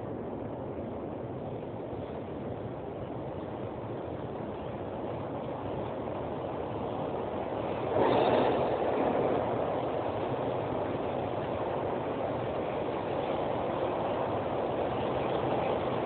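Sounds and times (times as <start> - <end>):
metro train wheels rumbling on rails: 0.0 - 16.0.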